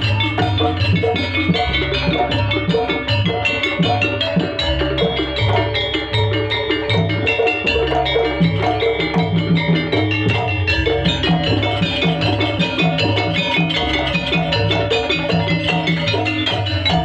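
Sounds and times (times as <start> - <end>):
drums: 0.0 - 17.0
gong-chime and metallophone percussion: 0.0 - 17.0.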